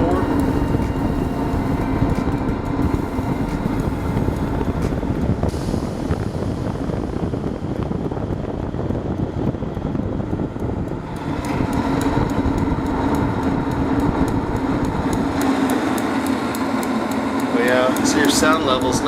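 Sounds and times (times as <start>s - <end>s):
heater burner flame and fan: 0.0s - 19.0s
igniter ticking: 0.0s - 19.0s
steady hum: 0.0s - 19.0s.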